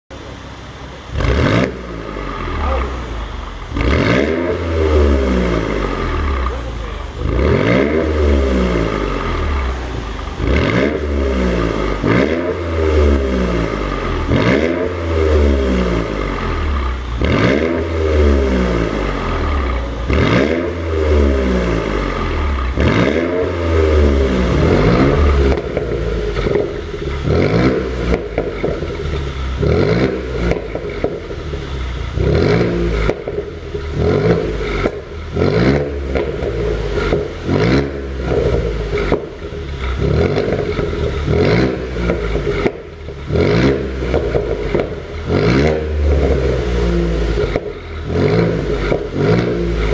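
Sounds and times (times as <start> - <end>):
car engine revving: 0.1 - 49.9
exhaust popping and crackling: 0.1 - 49.9.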